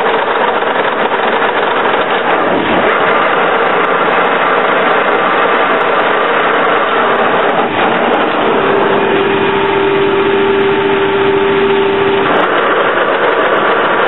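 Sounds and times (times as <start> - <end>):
lathe motor and gearbox running: 0.0 - 14.0
lathe whine: 0.0 - 14.0.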